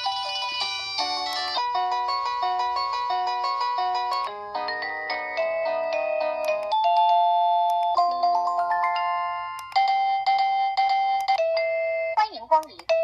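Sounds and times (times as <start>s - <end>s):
electronic doorbell chime melody: 0.0s - 12.2s.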